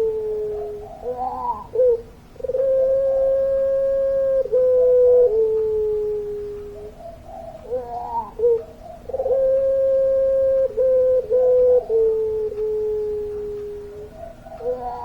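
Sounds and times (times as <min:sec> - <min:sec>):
dove giving a long coo: 0:00.0 - 0:15.0.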